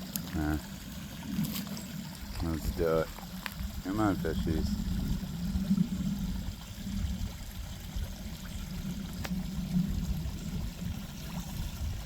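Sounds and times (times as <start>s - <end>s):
water pouring into pond: 0.0s - 12.0s.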